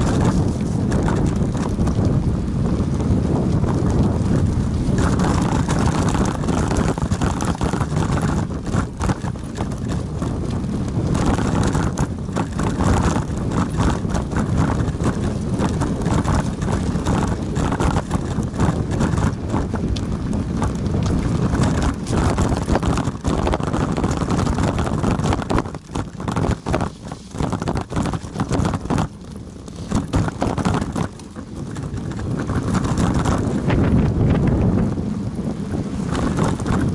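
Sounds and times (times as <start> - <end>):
bicycle rattling on rough asphalt: 0.0 - 36.9
wind buffeting microphone: 0.0 - 36.9.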